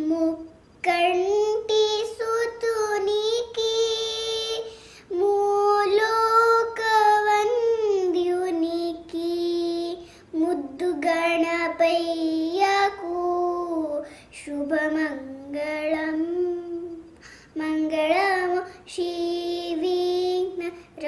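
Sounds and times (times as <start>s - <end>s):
girl singing unaccompanied: 0.0s - 21.0s.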